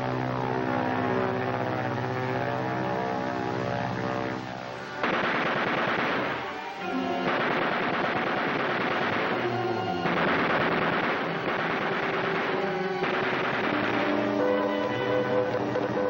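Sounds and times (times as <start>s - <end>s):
droning sliding chord: 0.0s - 16.0s.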